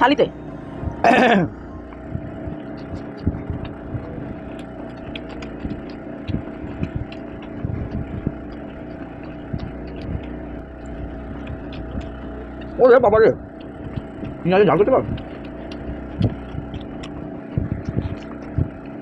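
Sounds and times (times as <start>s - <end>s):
steady mechanical hum: 0.0s - 19.0s
chewing: 0.9s - 19.0s
fingers clicking on a plate: 2.6s - 19.0s.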